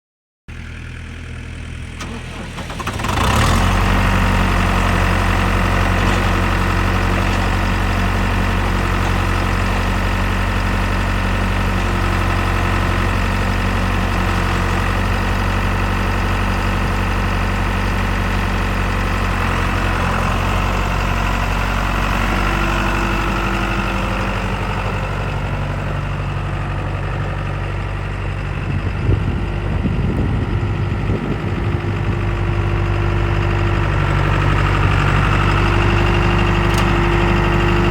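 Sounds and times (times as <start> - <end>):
tractor diesel engine idling: 0.5 - 37.9.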